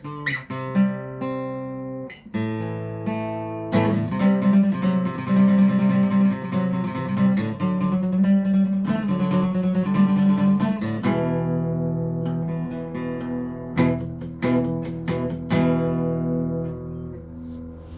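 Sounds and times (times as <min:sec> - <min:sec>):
acoustic guitar playing: 0:00.0 - 0:17.9.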